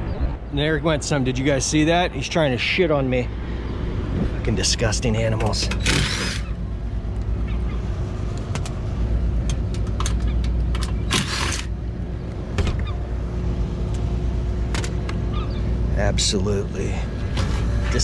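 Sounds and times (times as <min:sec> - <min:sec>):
hvac unit droning: 0:00.0 - 0:18.0.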